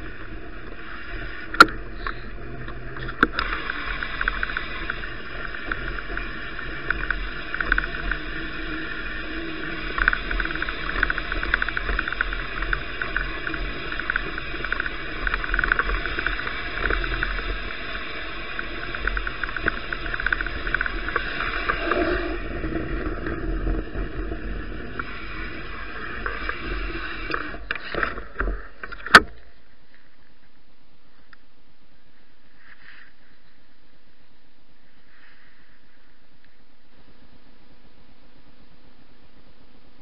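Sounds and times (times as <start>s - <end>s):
bicycle riding on snow: 0.0s - 28.8s, 32.0s - 36.8s.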